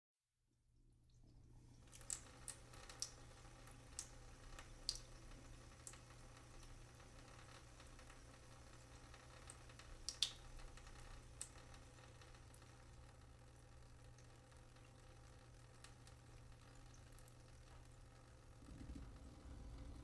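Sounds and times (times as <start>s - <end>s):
faint low hum: 0.8s - 20.0s
water dripping: 1.1s - 20.0s.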